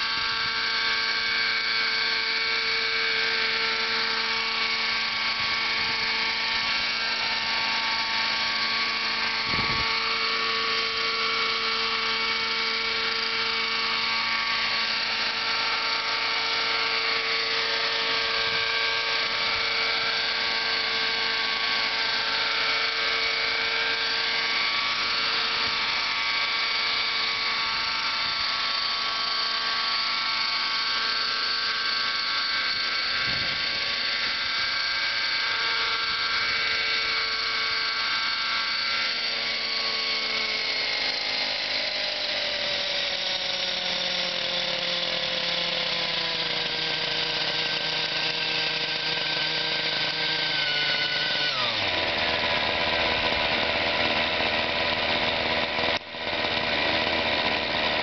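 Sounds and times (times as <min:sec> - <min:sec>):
rc helicopter engine whining: 0:00.0 - 0:58.0
spinning rotors: 0:00.0 - 0:58.0.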